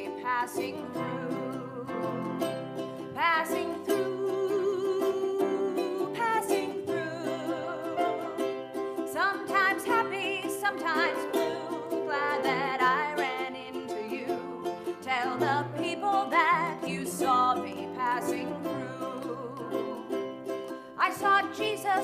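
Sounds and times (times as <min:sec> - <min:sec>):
piano: 0:00.0 - 0:22.0
ukulele: 0:00.0 - 0:22.0.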